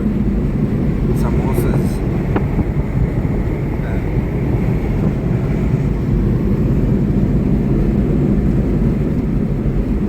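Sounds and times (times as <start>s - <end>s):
small truck driving: 0.0s - 10.0s.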